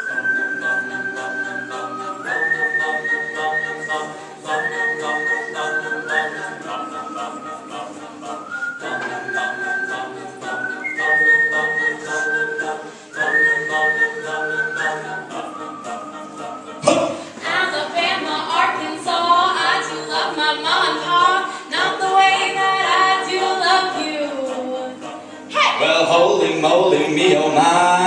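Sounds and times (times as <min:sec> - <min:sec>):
whistled song melody: 0:00.0 - 0:25.1.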